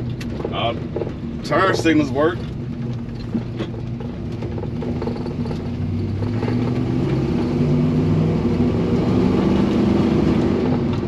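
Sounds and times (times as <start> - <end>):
pickup engine accelerating: 0.0 - 11.0.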